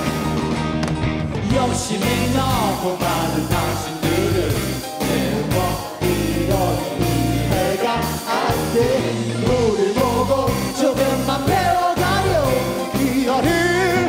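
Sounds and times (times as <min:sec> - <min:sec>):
keyboard: 0:00.0 - 0:14.0
live rock band: 0:00.0 - 0:14.0
person singing lead vocal: 0:01.4 - 0:14.0.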